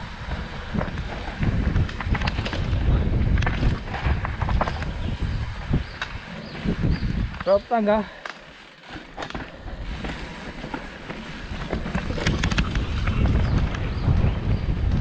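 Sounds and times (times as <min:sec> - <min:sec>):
bike knocks and rattles: 0:00.0 - 0:07.6, 0:08.3 - 0:15.0
wind noise on microphone: 0:00.0 - 0:07.6, 0:09.2 - 0:15.0.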